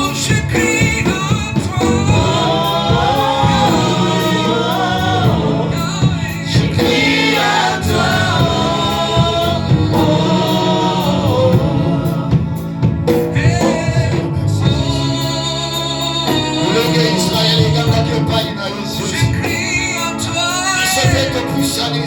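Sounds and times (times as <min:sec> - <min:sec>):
choir singing gospel song: 0:00.0 - 0:22.0
instrumental backing with bass: 0:00.0 - 0:22.0.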